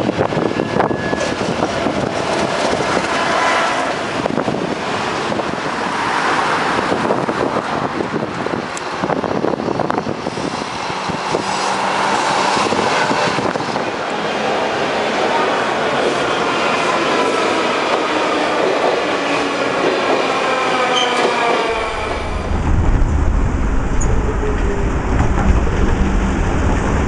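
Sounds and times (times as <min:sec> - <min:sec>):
road traffic: 0:00.0 - 0:27.0
tram passing: 0:00.0 - 0:27.0.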